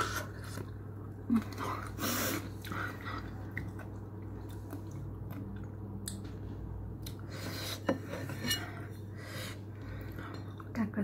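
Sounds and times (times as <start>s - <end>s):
person chewing food: 0.0s - 10.7s
steady low hum: 0.0s - 11.0s.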